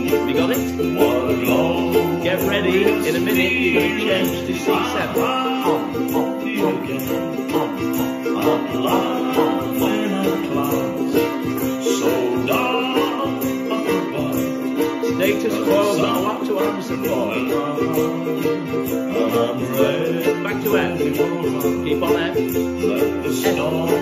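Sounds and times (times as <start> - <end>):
ukulele strumming: 0.0 - 24.0.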